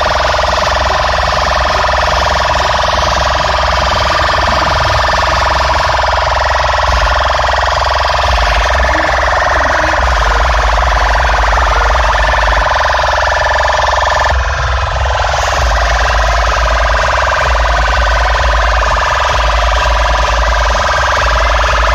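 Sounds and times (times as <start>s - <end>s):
distorted siren-like tone: 0.0s - 21.9s
heavy bass: 0.0s - 21.9s.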